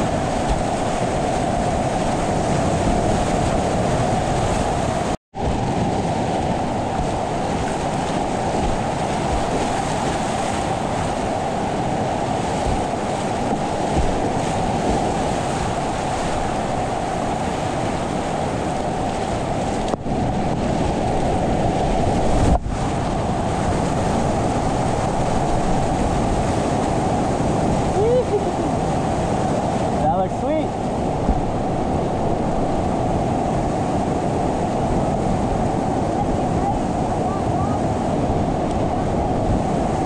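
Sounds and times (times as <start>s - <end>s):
whitewater rushing: 0.0s - 40.0s.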